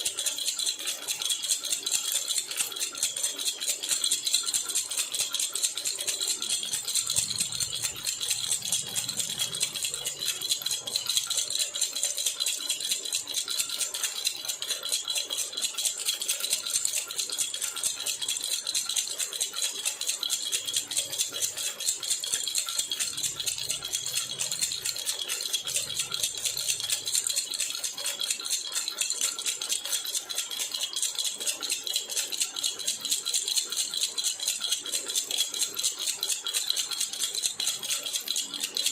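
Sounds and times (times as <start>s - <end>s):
baby rattle shaken: 0.0s - 38.9s.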